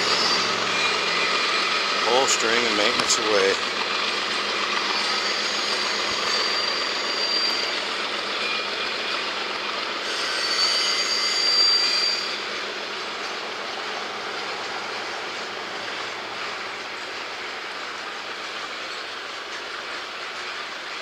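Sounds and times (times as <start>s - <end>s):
freight train wheels rattling: 0.0s - 21.0s
high wheel squeals: 0.0s - 21.0s.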